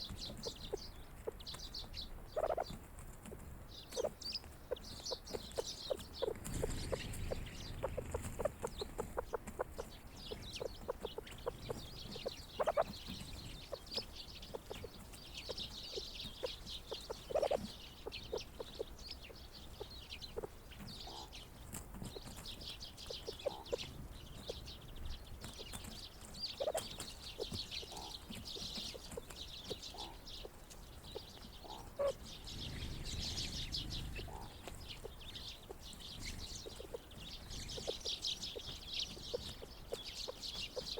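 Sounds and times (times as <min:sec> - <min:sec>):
small birds chattering: 0:00.0 - 0:40.9.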